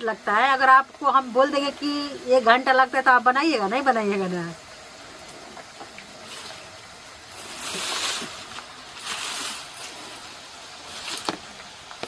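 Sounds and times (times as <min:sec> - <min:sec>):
chips sizzling in hot oil: 0:00.0 - 0:12.0.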